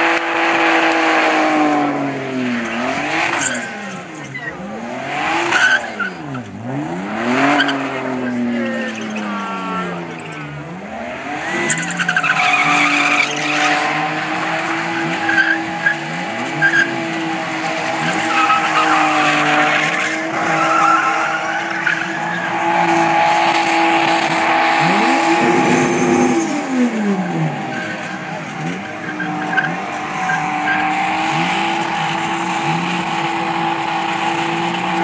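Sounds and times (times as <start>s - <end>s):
car engine revving high: 0.0s - 35.0s
tyres spinning and screeching: 0.1s - 35.0s.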